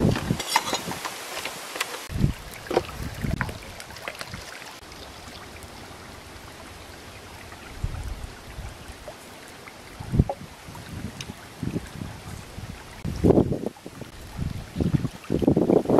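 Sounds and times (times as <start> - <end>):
stream running over rocks: 0.0 - 15.9.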